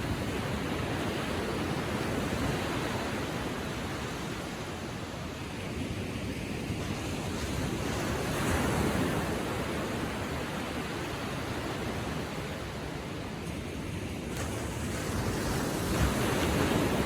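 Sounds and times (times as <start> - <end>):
small waves lapping on sand: 0.0 - 17.0
wind on microphone: 0.0 - 17.0.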